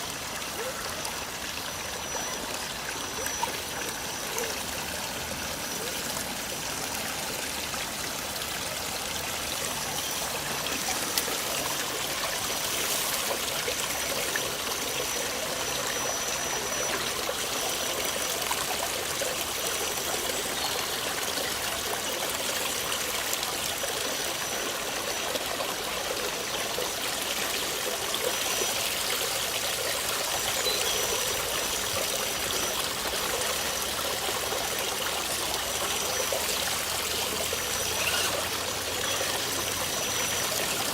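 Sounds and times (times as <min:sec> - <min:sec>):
running water trickling: 0:00.0 - 0:40.9.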